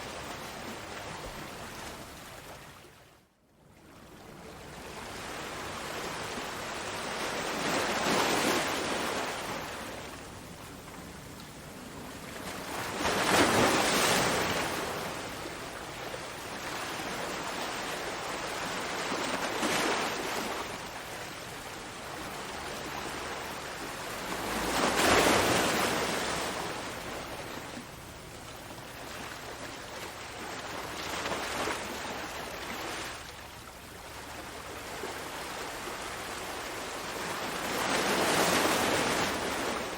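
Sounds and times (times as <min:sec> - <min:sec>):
ocean waves breaking on shore: 0:00.0 - 0:03.2, 0:03.8 - 0:39.9.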